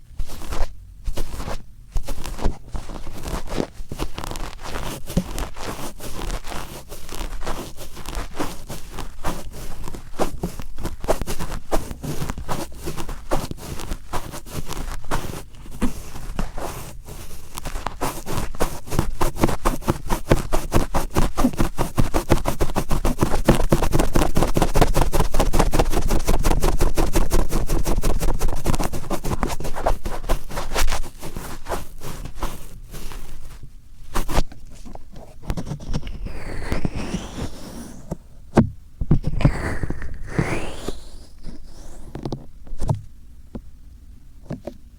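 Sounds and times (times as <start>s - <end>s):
cotton swab scratching in ear: 0.2s - 38.2s, 39.2s - 42.3s.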